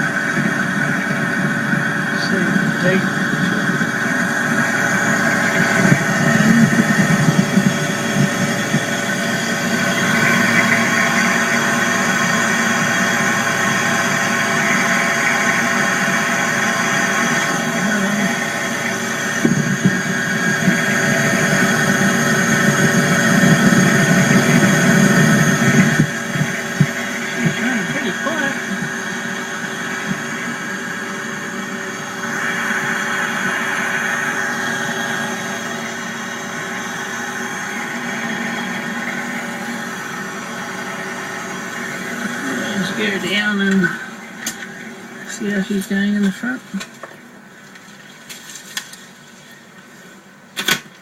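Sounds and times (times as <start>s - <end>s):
fridge compressor humming: 0.0s - 51.0s.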